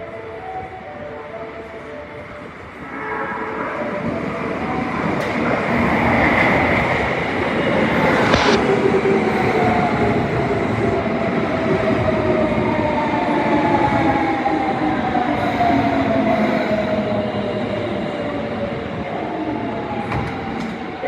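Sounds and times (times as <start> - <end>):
rail running rumble: 0.0 - 21.0
subway motor whine: 0.0 - 21.0.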